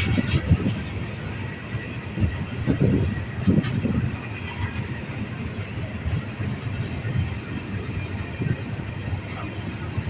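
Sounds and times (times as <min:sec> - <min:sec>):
train rumbling past: 0:00.0 - 0:10.0
wheels clattering on rails: 0:00.0 - 0:10.0.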